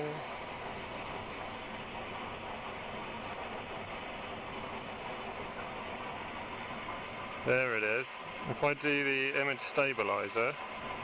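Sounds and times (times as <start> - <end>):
vacuum cleaner hissing and whining: 0.0 - 11.0.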